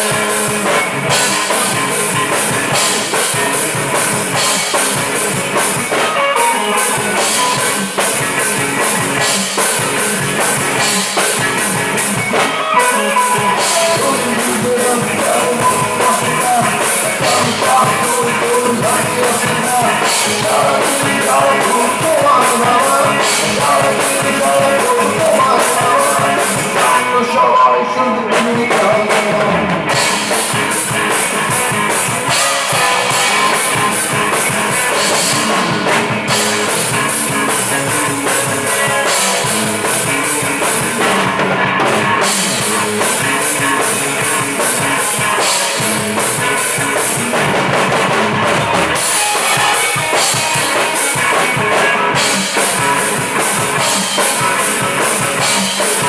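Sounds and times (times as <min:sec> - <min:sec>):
drum kit with cymbals: 0:00.0 - 0:27.0, 0:28.3 - 0:56.0
electric guitars: 0:00.0 - 0:56.0.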